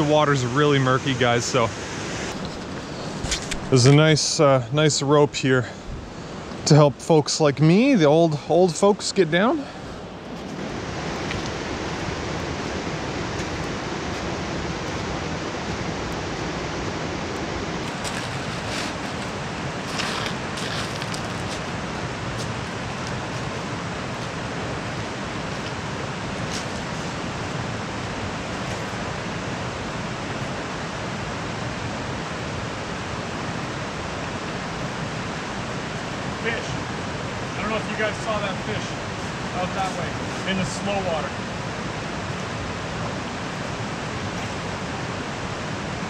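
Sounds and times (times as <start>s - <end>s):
river rushing over rapids: 0.0s - 46.0s.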